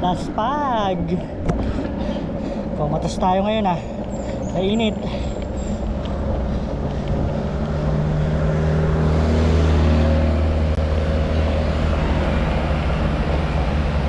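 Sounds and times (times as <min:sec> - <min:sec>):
road and wind noise: 0:00.0 - 0:14.0
vehicle engine passing: 0:01.1 - 0:14.0.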